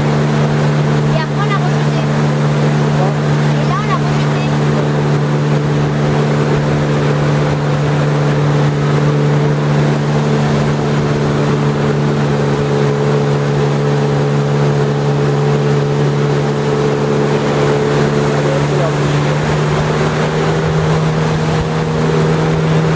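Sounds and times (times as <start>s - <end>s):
jet ski engine running: 0.0s - 22.9s.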